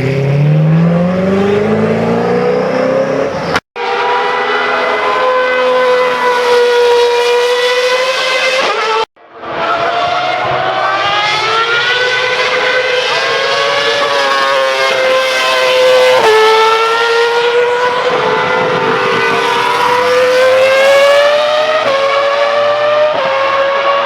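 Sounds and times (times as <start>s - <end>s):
supercar engine accelerating: 0.0s - 24.0s.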